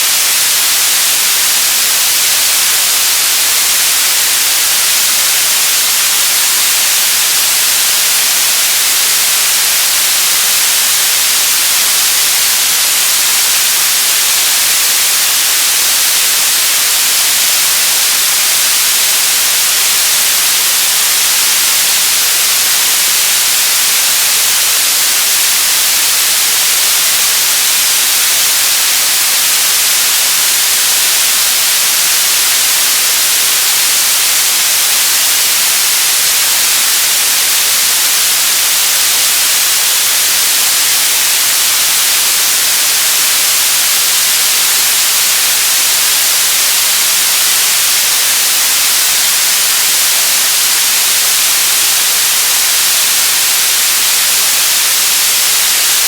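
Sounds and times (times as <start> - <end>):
television static hiss: 0.0 - 56.0.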